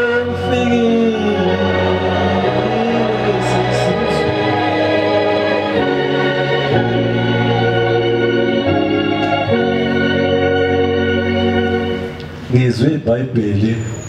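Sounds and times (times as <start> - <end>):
organ chords: 0.0 - 13.3.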